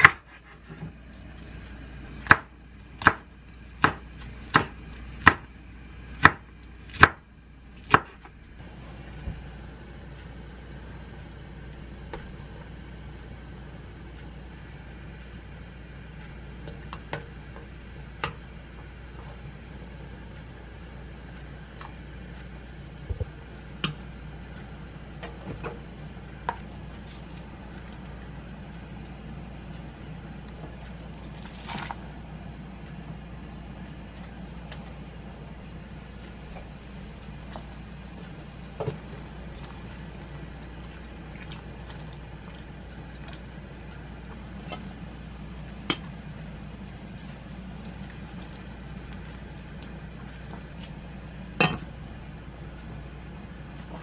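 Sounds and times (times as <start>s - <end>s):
pot simmering hum: 0.0s - 54.0s.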